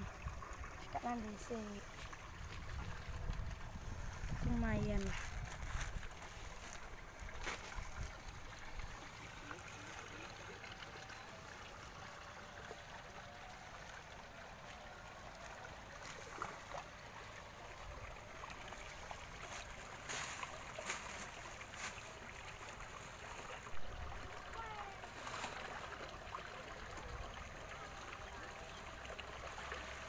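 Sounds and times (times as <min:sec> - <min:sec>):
water trickling in stream: 0:00.0 - 0:30.0.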